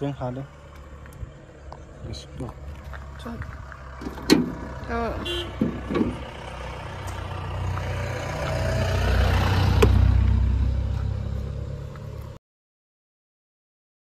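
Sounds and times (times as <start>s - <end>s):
passing vehicle engine rumble: 0.0s - 12.4s.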